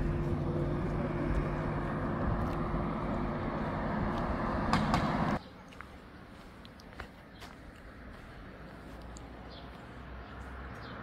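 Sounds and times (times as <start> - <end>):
car engine hum and road noise: 0.0 - 11.0.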